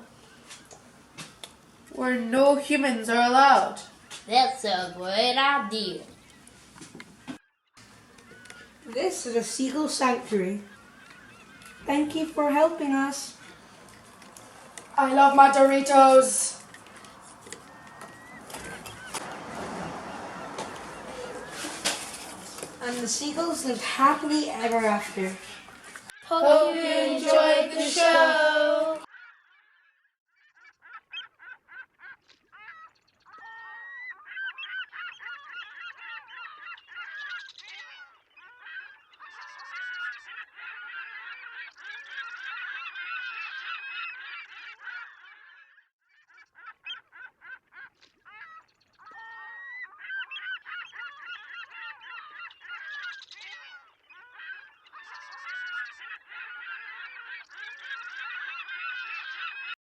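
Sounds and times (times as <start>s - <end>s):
gulls calling and squawking: 0.0s - 59.8s.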